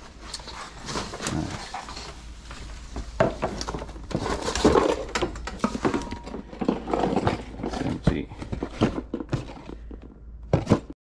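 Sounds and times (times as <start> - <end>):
objects clattering and thudding: 0.2 - 11.0.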